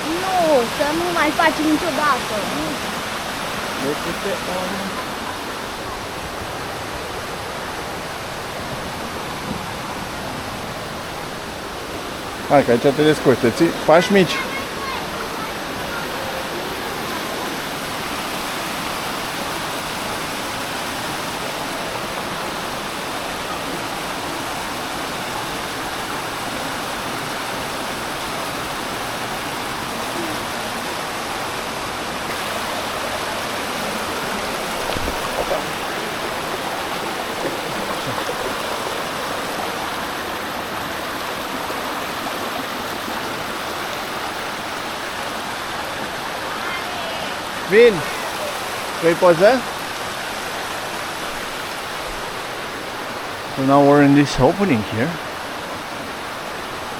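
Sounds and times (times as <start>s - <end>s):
creek rushing over rocks: 0.0s - 56.9s.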